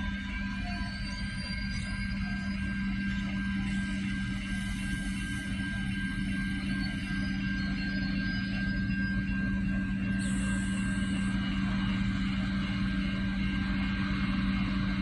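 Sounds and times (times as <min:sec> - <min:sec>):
diesel railcars droning: 0:00.0 - 0:15.0.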